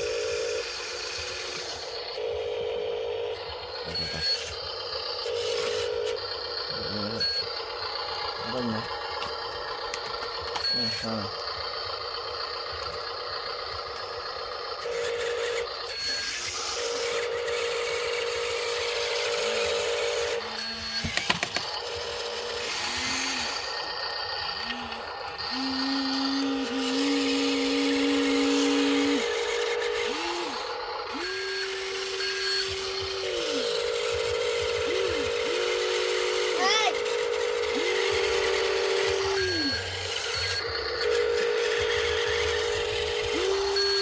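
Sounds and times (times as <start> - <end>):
steady high whine: 0.0 - 44.0
toy electric motors whirring: 0.0 - 44.0.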